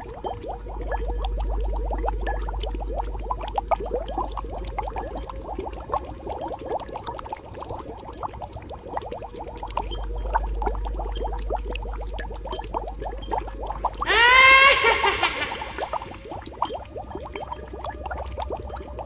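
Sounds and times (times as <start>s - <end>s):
thick liquid bubbling: 0.0s - 19.0s.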